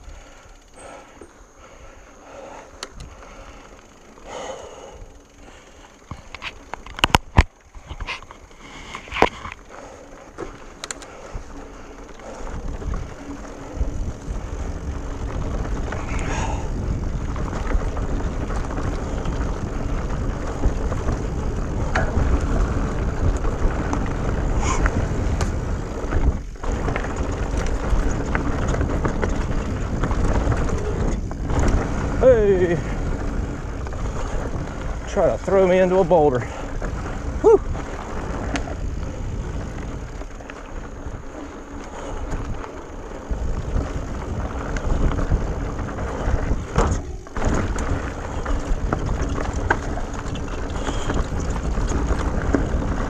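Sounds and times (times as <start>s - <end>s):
bike tyres rumbling on dirt: 0.0s - 53.0s.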